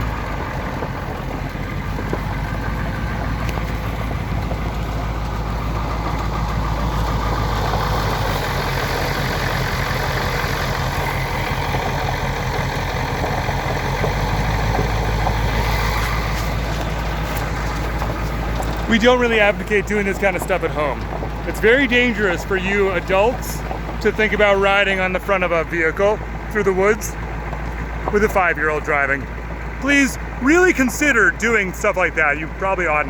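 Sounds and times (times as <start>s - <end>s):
bus engine drone: 0.0s - 33.0s
road noise: 0.0s - 33.0s.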